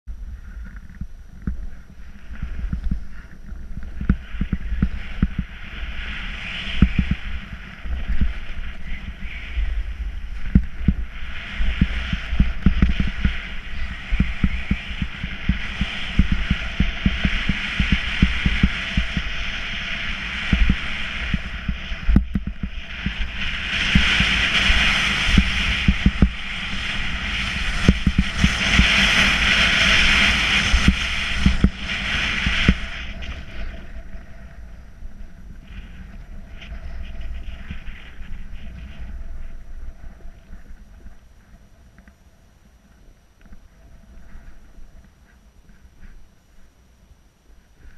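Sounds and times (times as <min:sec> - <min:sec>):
wind buffeting microphone: 0:00.1 - 0:46.7
snowboard scraping on snow: 0:01.6 - 0:41.0.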